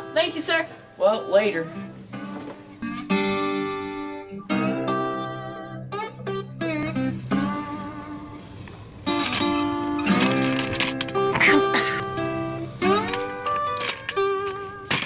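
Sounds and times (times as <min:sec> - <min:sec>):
slow plucked guitar notes: 0:01.6 - 0:15.0.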